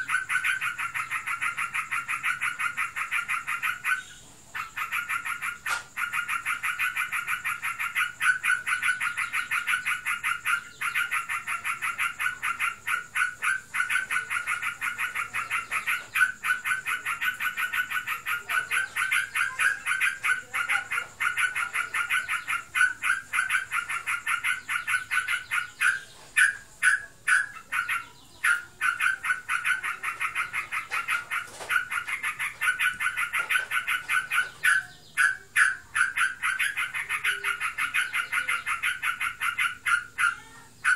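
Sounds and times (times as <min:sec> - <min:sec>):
bird chattering rapidly: 0:00.0 - 0:40.9.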